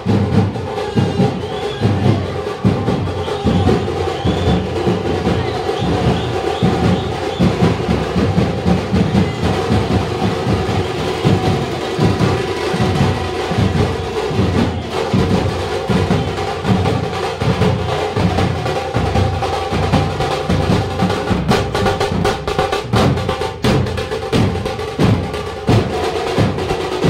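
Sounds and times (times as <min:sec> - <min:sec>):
crowd din: 0:00.0 - 0:27.0
frame drums beaten fast: 0:00.0 - 0:27.0.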